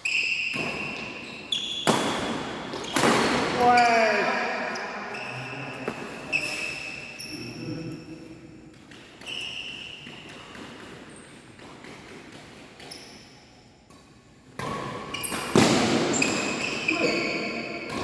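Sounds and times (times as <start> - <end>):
shoes squeaking on court floor: 0.0 - 18.0.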